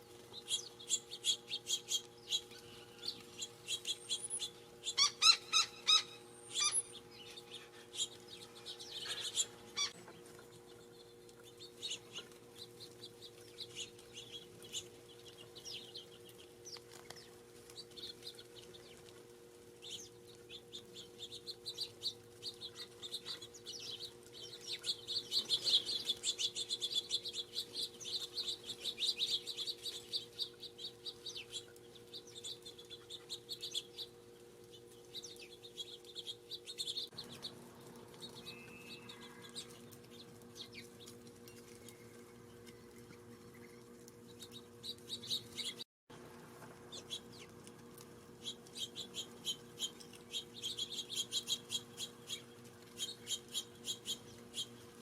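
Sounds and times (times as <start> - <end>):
small birds chirping: 0.0 - 45.8, 46.6 - 55.0
faint steady hum: 0.0 - 55.0.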